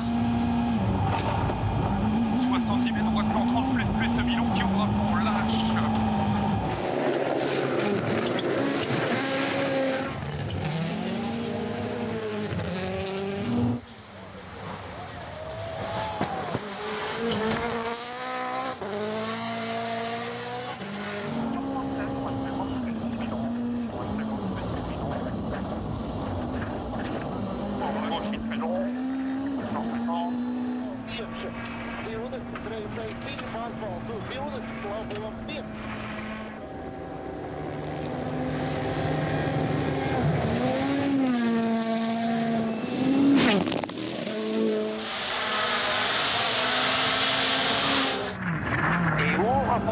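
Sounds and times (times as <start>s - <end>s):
rally car engine accelerating: 0.0s - 49.9s.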